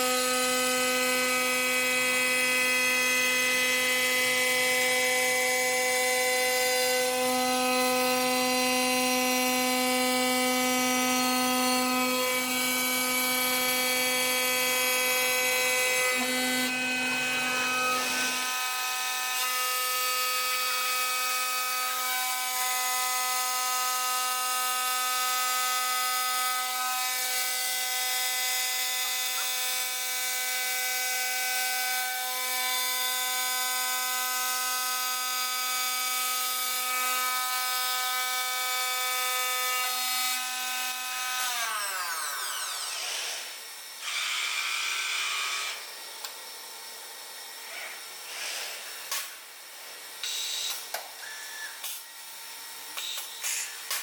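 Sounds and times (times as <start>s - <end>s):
stone saw mechanical whine: 0.0s - 22.9s, 25.2s - 54.0s.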